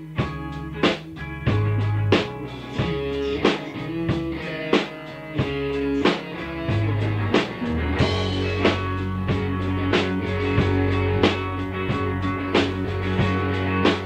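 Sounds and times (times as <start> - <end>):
bass notes: 0.0 - 14.0
drum kit: 0.0 - 14.0
guitar: 0.0 - 14.0.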